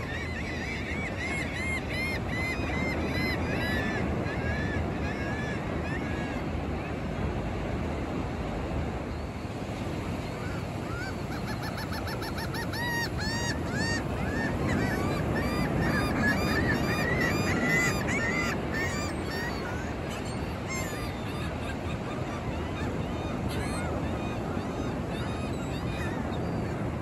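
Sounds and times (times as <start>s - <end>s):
seagulls calling: 0.0s - 7.7s, 9.1s - 27.0s
ocean surf: 0.0s - 27.0s.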